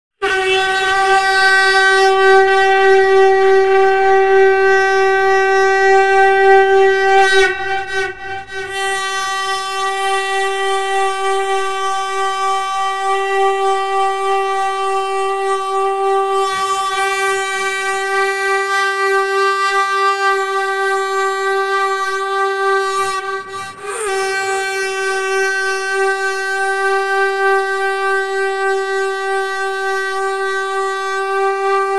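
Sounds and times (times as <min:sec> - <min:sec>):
conch shell blown: 0:00.2 - 0:31.9.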